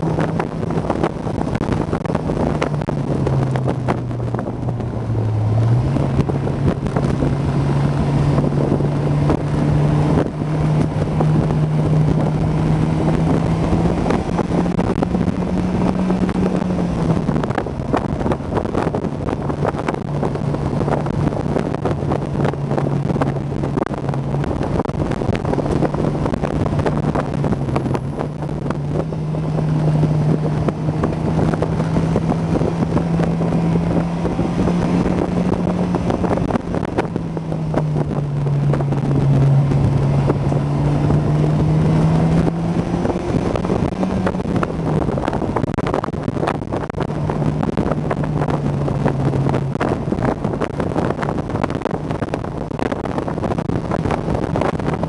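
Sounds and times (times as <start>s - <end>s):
car engine revving: 0.0s - 55.0s
wind buffeting microphone: 0.0s - 55.0s.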